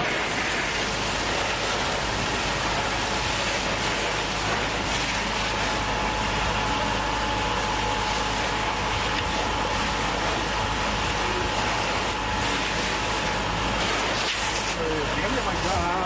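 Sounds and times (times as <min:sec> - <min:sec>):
fire hose spraying: 0:00.0 - 0:16.0.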